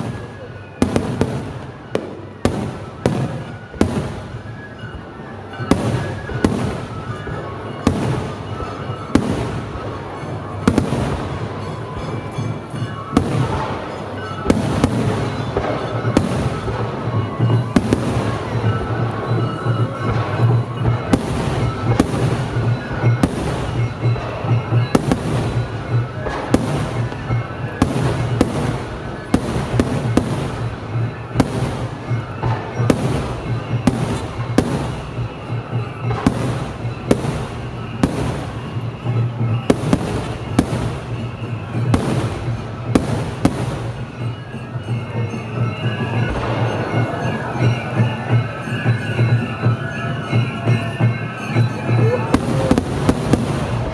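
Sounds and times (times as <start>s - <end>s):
fireworks crackling: 0.0s - 53.9s
music playing: 0.0s - 53.9s
fireworks shell bursts banging: 5.5s - 49.6s, 50.3s - 53.9s.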